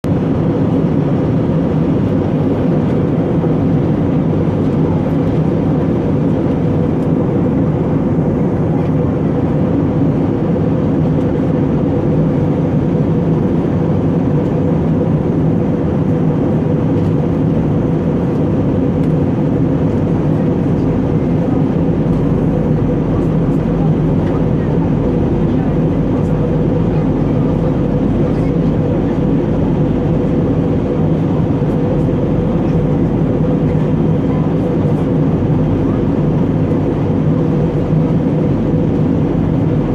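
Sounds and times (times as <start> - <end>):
jet engine cabin drone: 0.0 - 39.9
low steady hums: 0.1 - 39.9.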